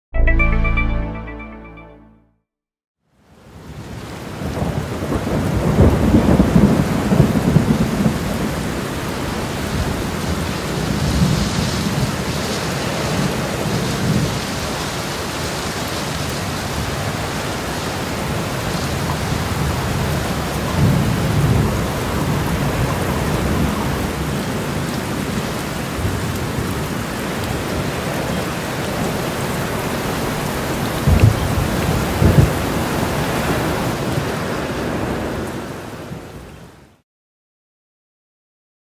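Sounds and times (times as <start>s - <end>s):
heavy rain pouring: 3.4s - 36.7s.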